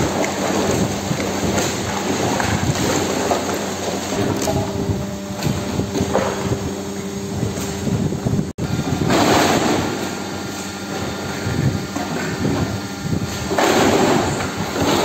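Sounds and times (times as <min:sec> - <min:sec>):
motor and pump humming: 0:00.0 - 0:15.0.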